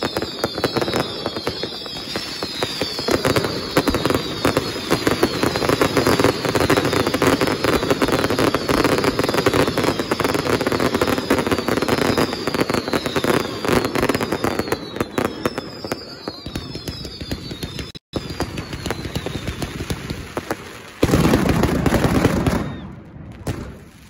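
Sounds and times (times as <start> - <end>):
fireworks bangs and crackling: 0.0 - 24.0
fireworks whistles: 0.0 - 24.0.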